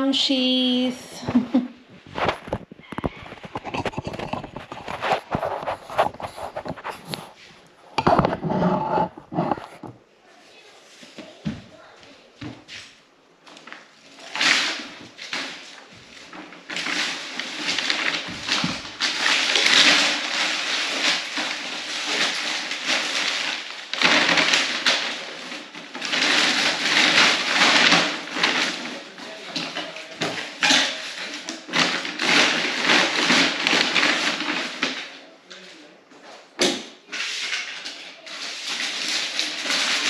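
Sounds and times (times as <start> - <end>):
wrapping paper rustling and crumpling: 1.9 - 40.0.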